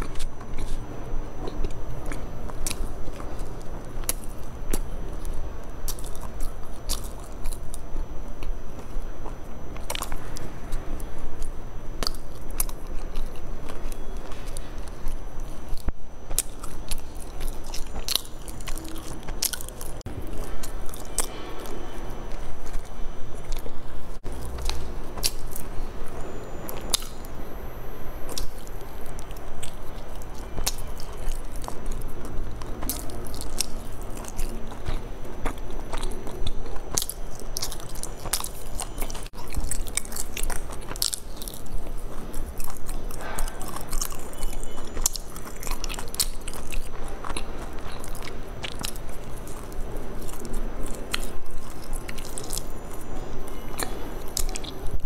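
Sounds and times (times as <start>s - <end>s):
chewing and biting: 0.0s - 55.0s
food crunching: 0.0s - 55.0s.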